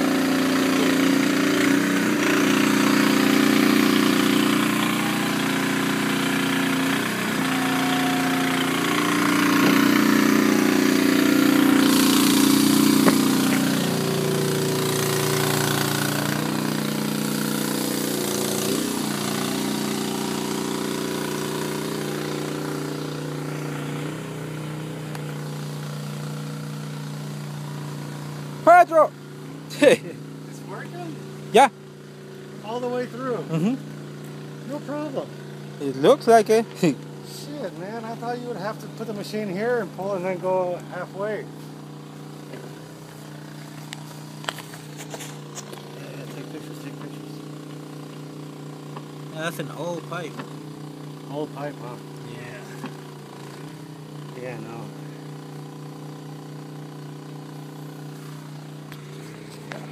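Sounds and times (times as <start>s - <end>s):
machine engine running: 0.0s - 59.9s.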